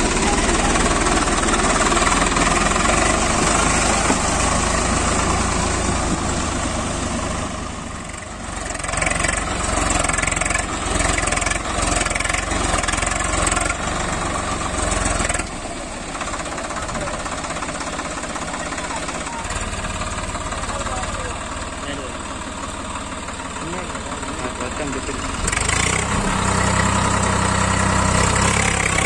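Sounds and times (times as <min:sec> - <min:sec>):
tractor diesel engine revving: 0:00.0 - 0:29.0.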